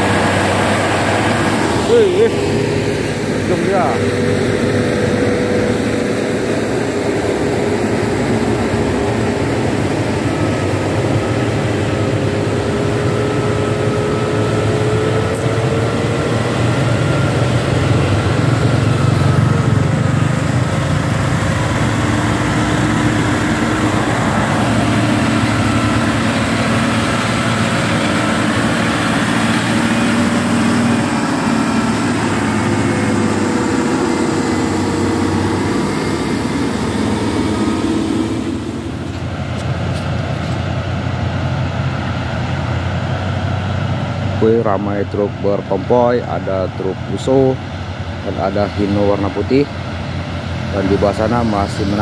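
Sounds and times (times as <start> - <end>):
diesel truck engine passing: 0.0 - 52.0.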